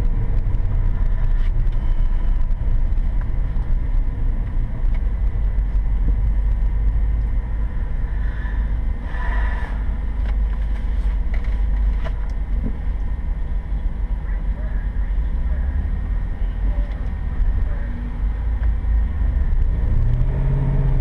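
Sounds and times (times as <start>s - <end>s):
car cabin engine drone: 0.0s - 21.0s.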